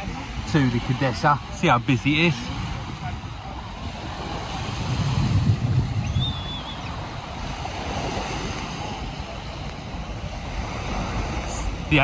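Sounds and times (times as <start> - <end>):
small waves breaking on beach: 0.0 - 12.0
wind buffeting microphone: 0.0 - 12.0.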